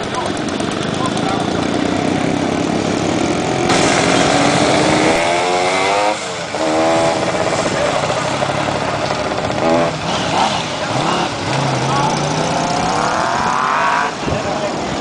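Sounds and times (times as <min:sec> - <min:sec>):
motorcycle engine revving: 0:00.0 - 0:15.0
motorcycles riding past: 0:00.0 - 0:15.0.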